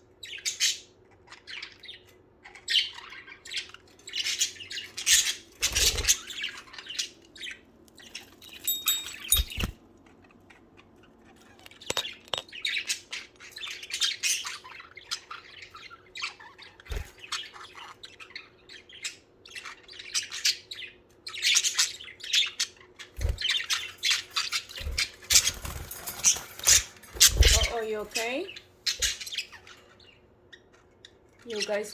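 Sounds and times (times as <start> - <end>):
budgerigars chattering and squawking: 0.1 - 9.7, 10.8 - 31.9.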